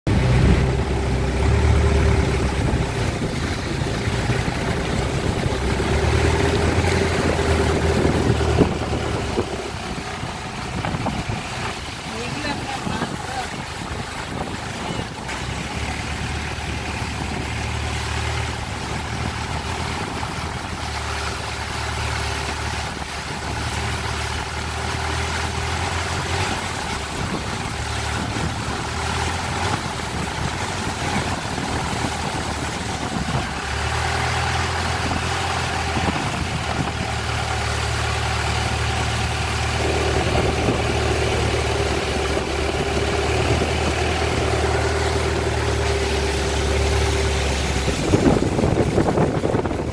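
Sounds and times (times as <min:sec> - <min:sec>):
boat engine running: 0:00.0 - 0:49.9
water and wind rushing: 0:00.1 - 0:49.9.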